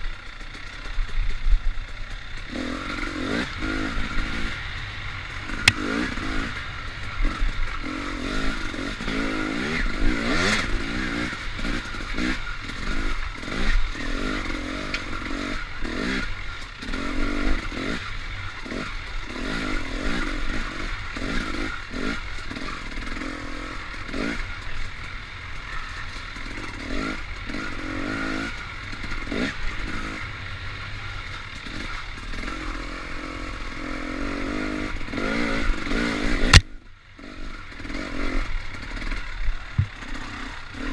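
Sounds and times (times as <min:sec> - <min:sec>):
bike rattling over rough trail: 0:00.0 - 0:40.9
dirt bike engine revving: 0:00.0 - 0:40.9.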